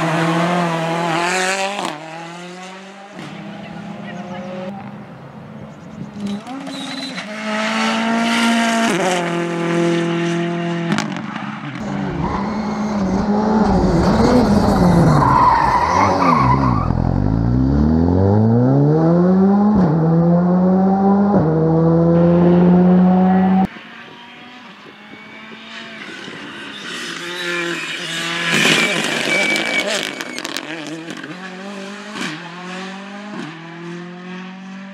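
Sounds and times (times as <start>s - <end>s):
rally car engine at full throttle: 0.0s - 34.9s.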